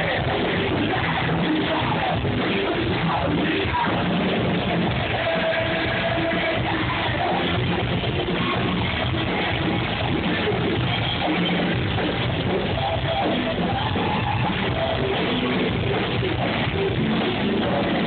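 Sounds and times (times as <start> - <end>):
live heavy metal band: 0.0 - 18.0.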